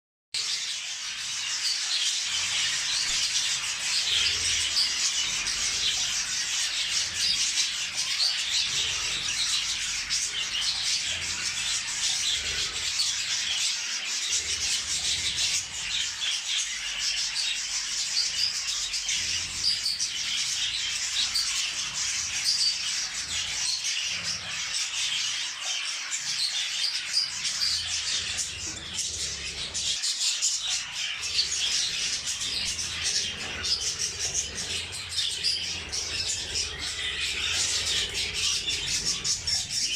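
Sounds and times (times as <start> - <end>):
budgerigars chattering: 0.4 - 39.9.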